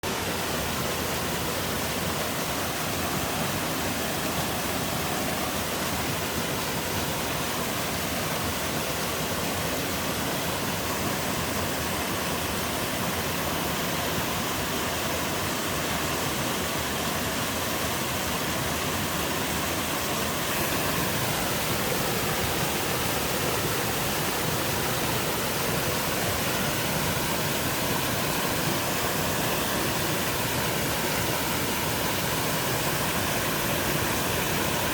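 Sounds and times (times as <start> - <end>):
waterfall rushing over rock: 0.0 - 34.9.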